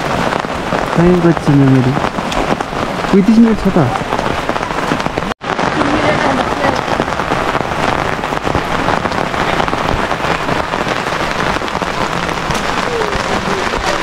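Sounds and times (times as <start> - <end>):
raindrops hitting: 0.0 - 14.0
steady rain hiss: 0.0 - 14.0.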